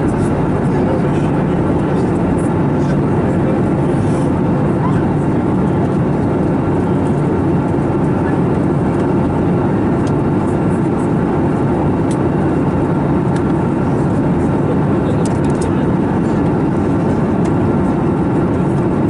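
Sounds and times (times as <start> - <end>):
airplane cabin airflow and engine drone: 0.0 - 19.0.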